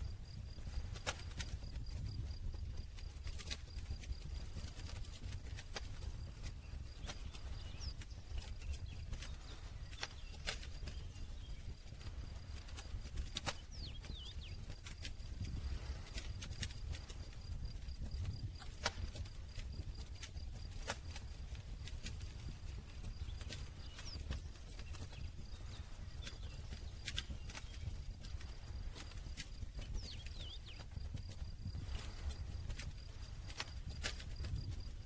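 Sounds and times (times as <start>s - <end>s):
low rumble of flames: 0.0s - 35.0s
wood crackling and popping: 0.0s - 35.0s.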